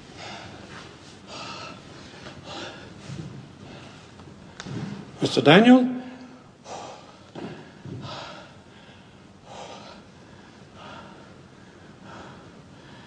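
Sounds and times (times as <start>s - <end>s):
man breathing heavily: 0.0s - 4.7s, 6.6s - 13.0s.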